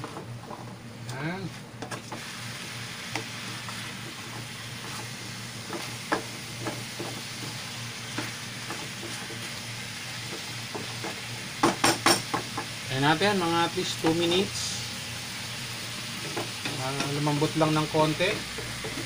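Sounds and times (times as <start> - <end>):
squash sizzling in frying pan: 2.0 - 19.0.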